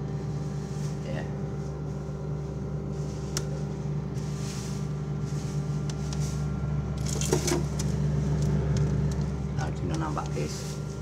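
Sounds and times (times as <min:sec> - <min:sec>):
refrigerator humming: 0:00.0 - 0:11.0.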